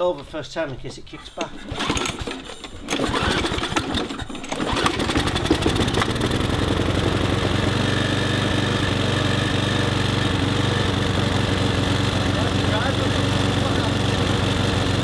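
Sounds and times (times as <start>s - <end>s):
lawn mower engine running: 1.5s - 15.0s.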